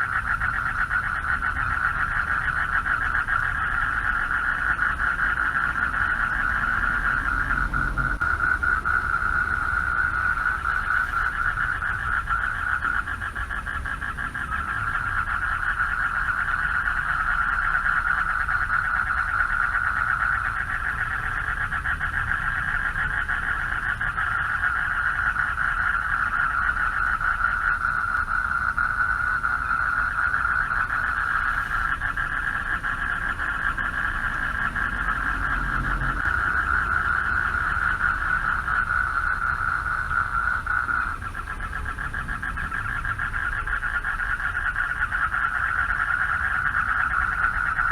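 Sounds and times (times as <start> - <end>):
frogs trilling: 0.0 - 47.9.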